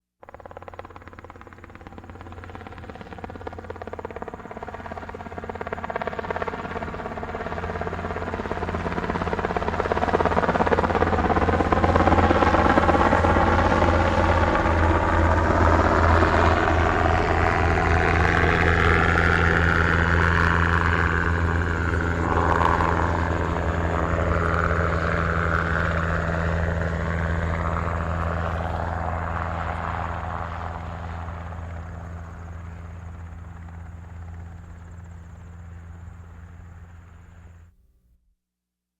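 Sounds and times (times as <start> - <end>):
helicopter rotor beating: 0.2 - 37.6.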